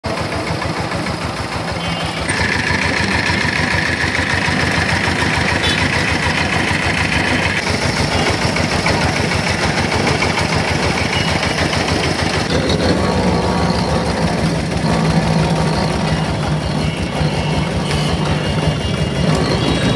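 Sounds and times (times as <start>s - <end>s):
juice press motor pulsing: 0.7s - 19.9s
high-pitched noise: 1.8s - 19.9s.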